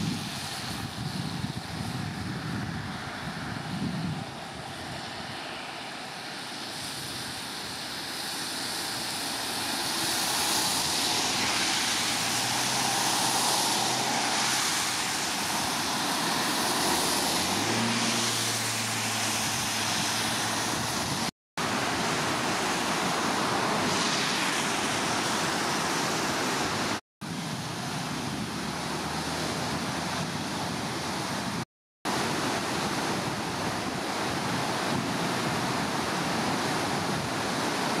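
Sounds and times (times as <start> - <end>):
cars driving past on wet road: 0.0 - 38.0
flooding river rushing: 0.0 - 38.0
wind: 0.0 - 38.0.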